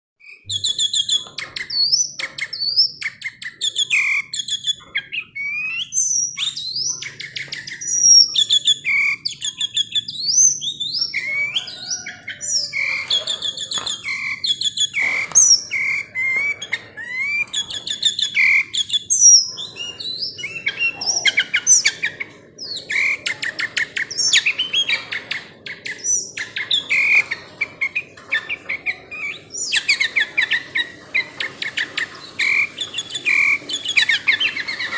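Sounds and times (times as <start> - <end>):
bird chirping and whistling: 0.2 - 34.9.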